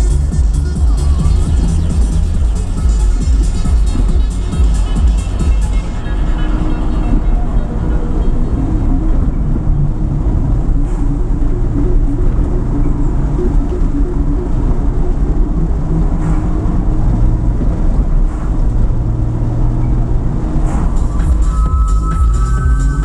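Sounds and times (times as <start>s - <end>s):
car engine and tyre noise: 0.0s - 23.0s
passing cars: 0.0s - 23.0s.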